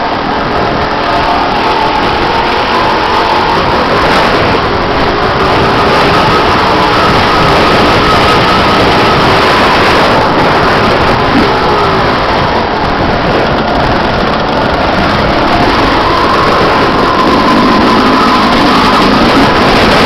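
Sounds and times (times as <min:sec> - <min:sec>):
motocross bike engine running: 0:00.0 - 0:20.0.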